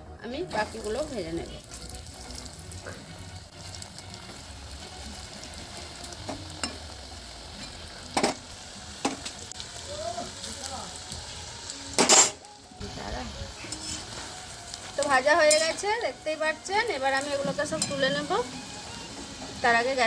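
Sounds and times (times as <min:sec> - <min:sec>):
food frying in hot oil: 0:00.5 - 0:20.0.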